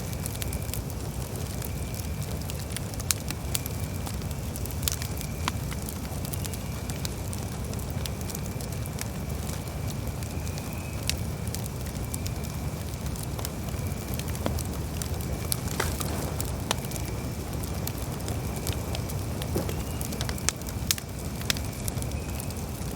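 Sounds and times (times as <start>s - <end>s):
campfire crackling: 0.0s - 22.9s
fire low rumble: 0.0s - 22.9s.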